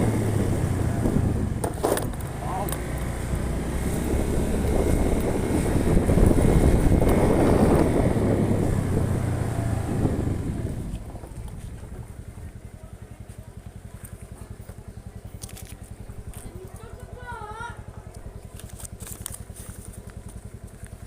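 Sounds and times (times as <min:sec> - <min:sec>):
car engine while driving: 0:00.0 - 0:21.0
road noise: 0:00.0 - 0:21.0.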